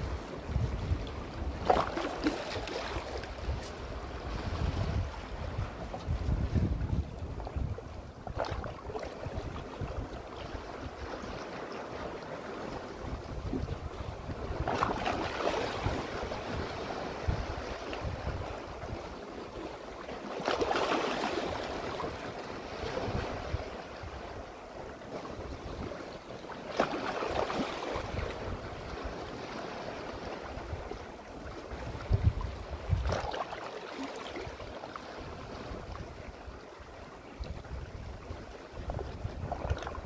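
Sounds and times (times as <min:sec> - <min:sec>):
wind rumbling on microphone: 0:00.0 - 0:19.8, 0:21.3 - 0:26.2, 0:27.3 - 0:33.6, 0:34.3 - 0:40.0.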